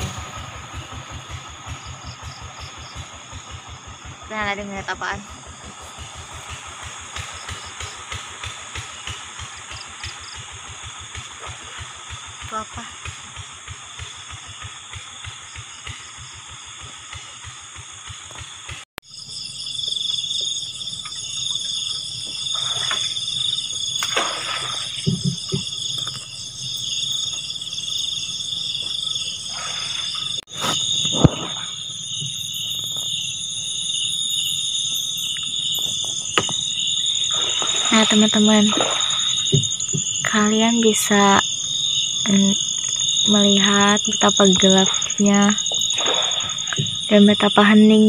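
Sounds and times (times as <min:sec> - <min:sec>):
insects trilling: 0:00.0 - 0:48.0.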